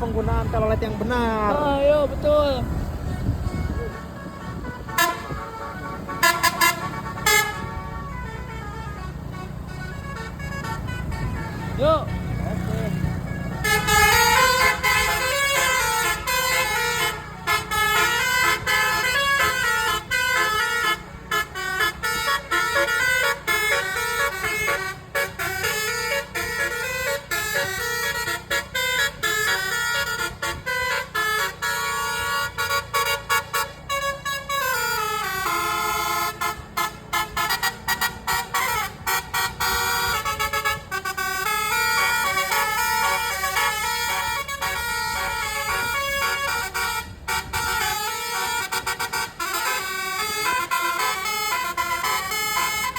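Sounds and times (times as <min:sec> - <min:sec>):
low rumble of moving bus: 0:00.0 - 0:52.9
bus air horns playing tunes: 0:03.0 - 0:52.9.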